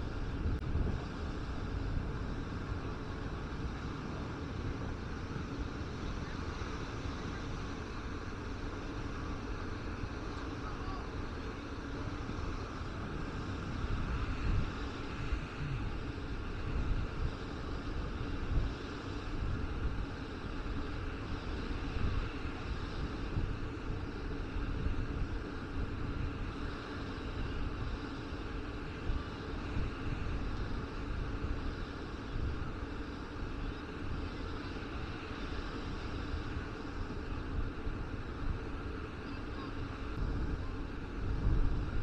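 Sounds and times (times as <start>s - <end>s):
steady outdoor hiss: 0.0s - 42.0s
wind buffeting microphone: 0.0s - 42.0s.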